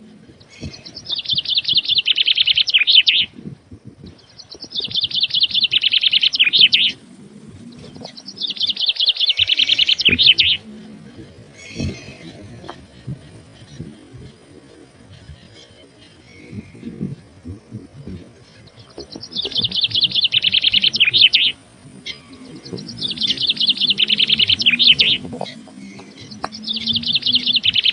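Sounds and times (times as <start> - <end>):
songbird trilling: 0.4 - 3.4, 4.1 - 27.9.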